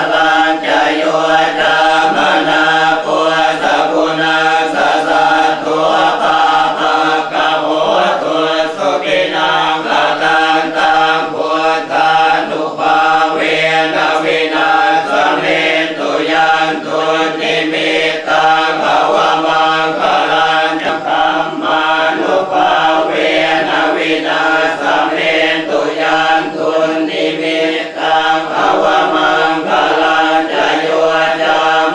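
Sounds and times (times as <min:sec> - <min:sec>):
monks chanting in unison: 0:00.0 - 0:31.9.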